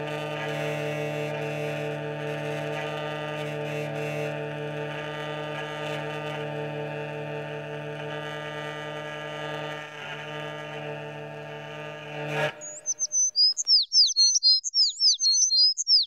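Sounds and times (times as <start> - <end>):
hurdy-gurdy drone chord: 0.0 - 13.1.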